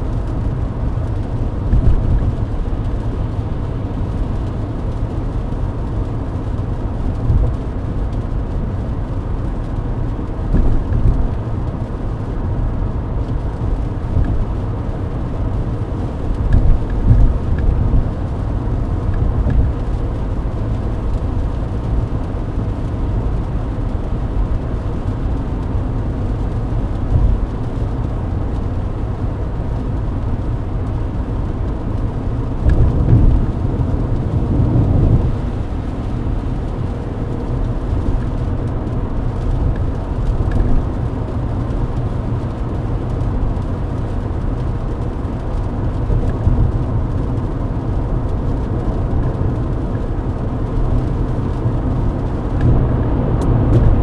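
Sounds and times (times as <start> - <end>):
tyres and engine rumble: 0.0 - 54.0.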